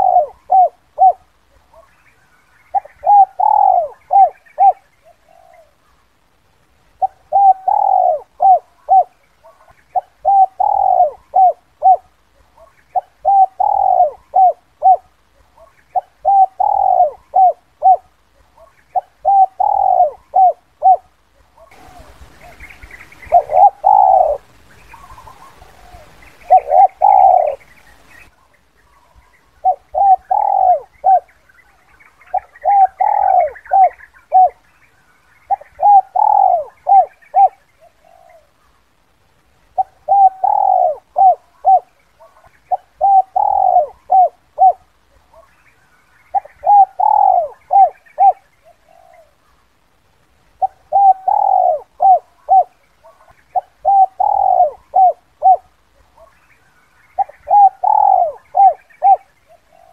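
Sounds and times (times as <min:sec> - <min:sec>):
dove cooing: 0:00.0 - 0:06.0, 0:06.9 - 0:34.7, 0:35.4 - 0:38.8, 0:39.7 - 0:45.6, 0:46.2 - 0:49.6, 0:50.5 - 0:59.9
faint hiss: 0:00.0 - 0:59.9.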